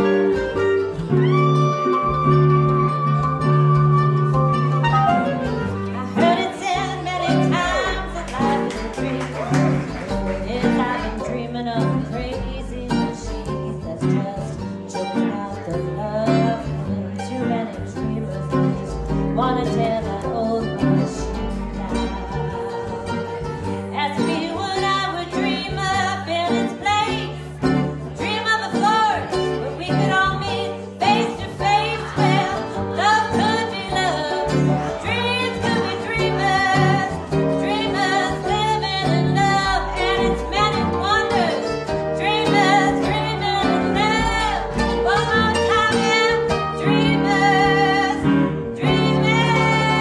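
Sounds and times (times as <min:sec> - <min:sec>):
guitars: 0:00.0 - 0:50.0
woman singing: 0:05.8 - 0:50.0.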